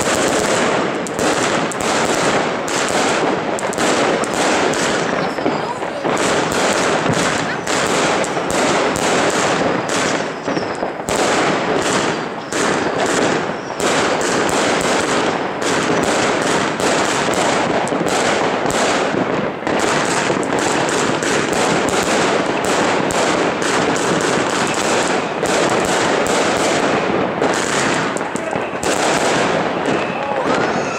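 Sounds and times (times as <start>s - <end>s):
fireworks barrage: 0.0s - 30.9s.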